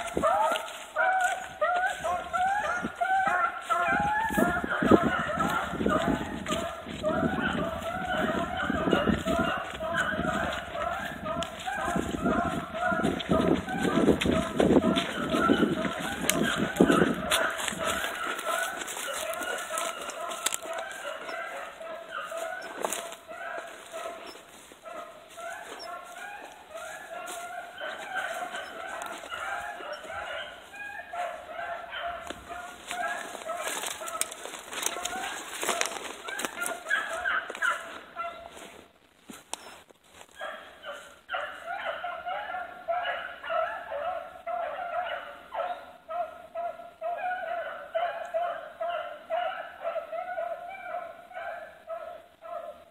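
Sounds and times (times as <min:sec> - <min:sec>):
hounds baying: 0:00.0 - 0:52.9.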